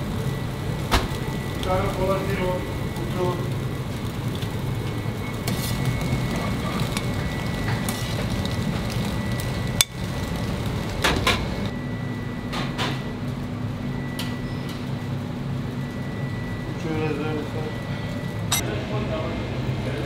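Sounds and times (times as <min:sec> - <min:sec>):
faint high whine: 0:00.0 - 0:10.5, 0:11.7 - 0:20.0
steady background noise: 0:00.0 - 0:20.0.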